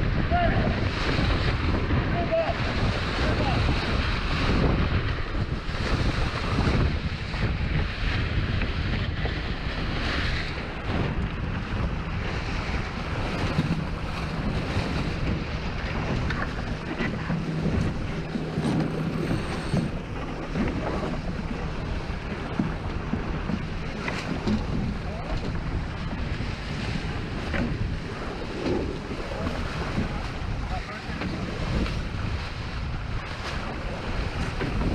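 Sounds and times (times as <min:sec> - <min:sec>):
water rushing along hull: 0:00.0 - 0:34.9
wind buffeting microphone: 0:00.0 - 0:34.9.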